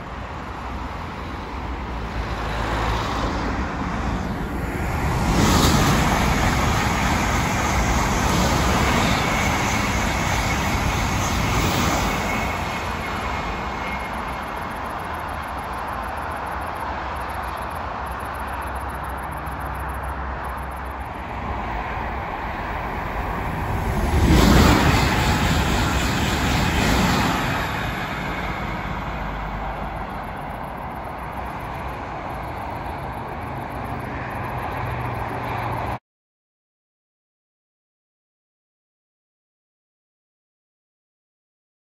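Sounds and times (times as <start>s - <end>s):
distant motorway traffic hum: 0.0s - 36.0s
high-speed train rushing past: 0.0s - 36.0s.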